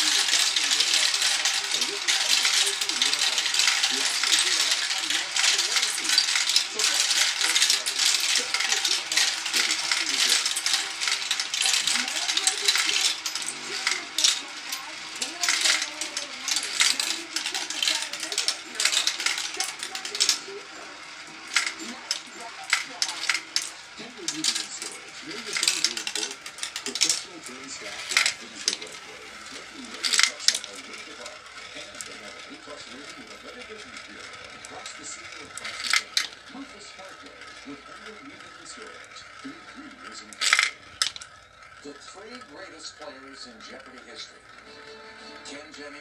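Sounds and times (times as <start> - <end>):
marbles rolling down plastic track: 0.0 - 46.0.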